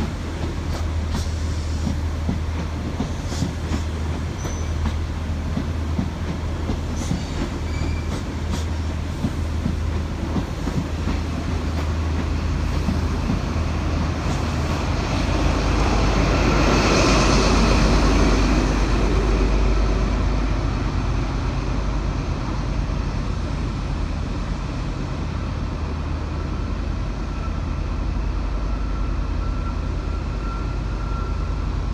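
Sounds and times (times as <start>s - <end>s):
diesel train passing: 0.0s - 31.9s
train wheels on rails: 0.0s - 31.9s.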